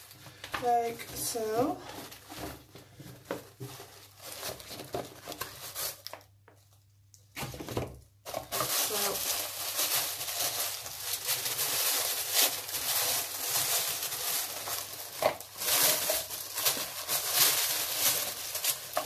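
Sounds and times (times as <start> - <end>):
tissue paper rustling: 0.0 - 6.3, 8.2 - 19.0.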